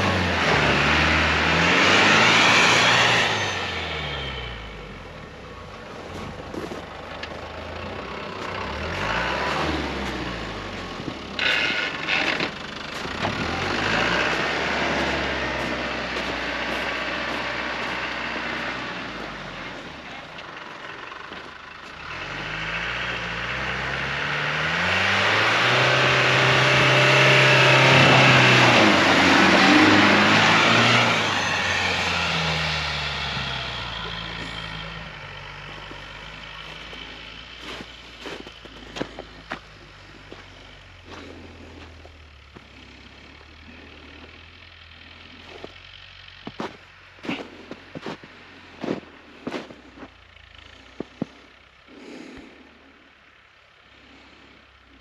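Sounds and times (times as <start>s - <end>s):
vehicle engine revving: 0.0s - 55.0s.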